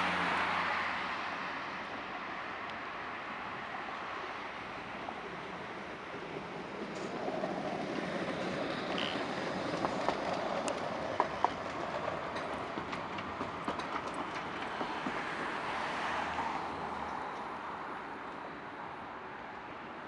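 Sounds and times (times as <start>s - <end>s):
tram rolling on rails: 0.0s - 20.0s.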